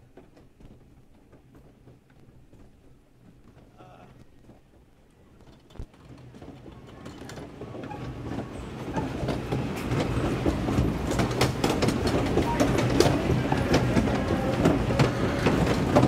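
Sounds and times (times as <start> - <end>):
mechanical clatter of ride: 0.0 - 3.8, 4.4 - 16.0.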